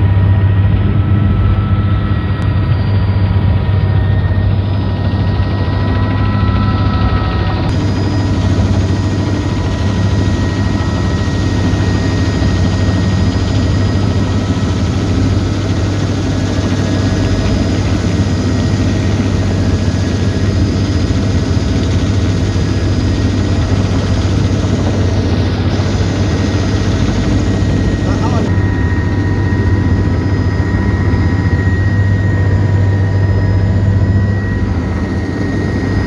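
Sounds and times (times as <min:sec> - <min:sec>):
helicopter engine and rotor drone: 0:00.0 - 0:36.0.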